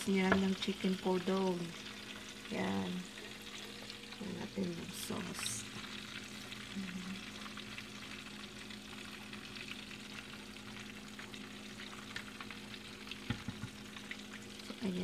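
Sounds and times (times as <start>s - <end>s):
oil sizzling with pops: 0.0s - 15.0s.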